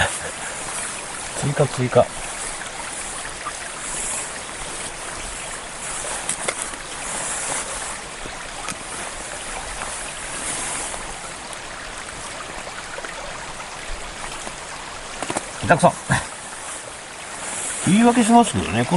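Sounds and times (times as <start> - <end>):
stream flowing: 0.0 - 18.9.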